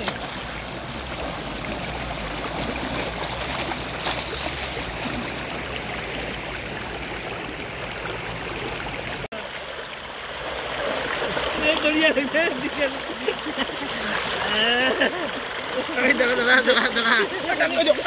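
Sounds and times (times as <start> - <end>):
people splashing in water: 0.0 - 18.0
river water rushing: 0.0 - 18.0.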